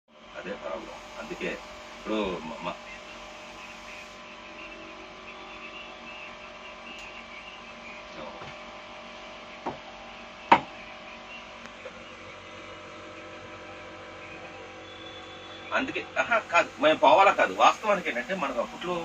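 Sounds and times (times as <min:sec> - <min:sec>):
electrical hum: 0:00.1 - 0:19.0.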